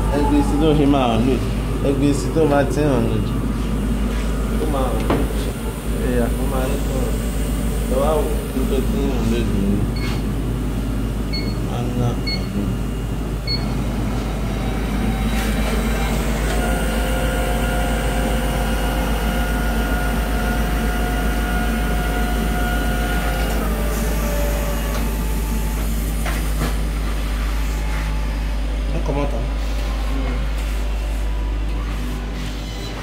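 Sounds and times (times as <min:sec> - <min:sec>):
machine low hum: 0:00.0 - 0:33.0
machine whine: 0:00.0 - 0:33.0.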